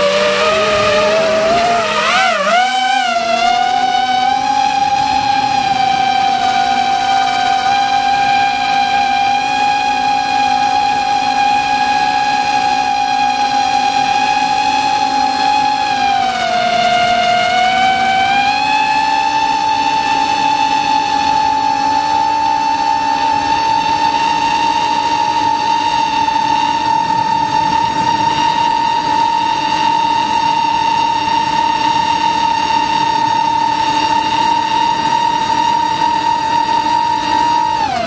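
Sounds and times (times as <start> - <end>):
model aircraft motor whining: 0.0 - 38.0.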